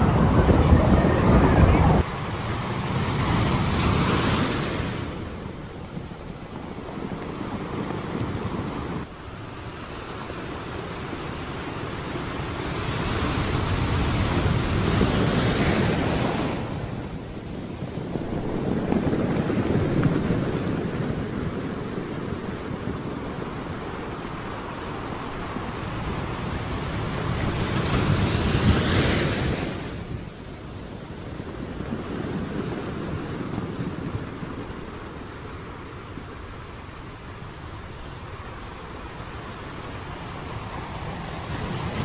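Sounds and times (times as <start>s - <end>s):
sea surf washing onto beach: 0.0s - 42.0s
wind buffeting microphone: 0.0s - 42.0s.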